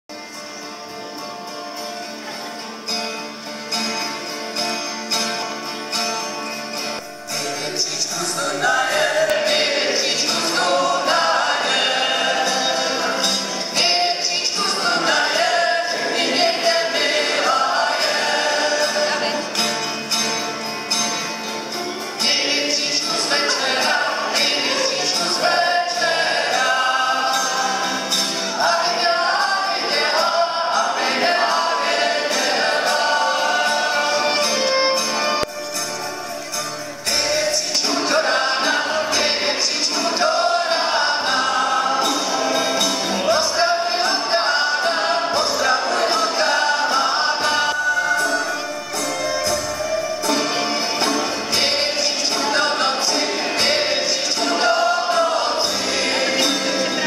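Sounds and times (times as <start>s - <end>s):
acoustic guitars strummed: 0.1s - 57.0s
group of voices singing: 7.0s - 19.9s, 22.0s - 35.4s, 37.0s - 57.0s.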